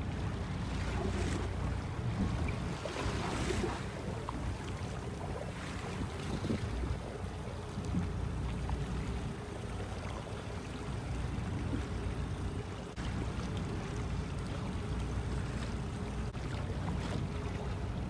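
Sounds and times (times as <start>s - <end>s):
boat motor rumbling: 0.0s - 18.0s
water washing against hull: 0.0s - 18.0s.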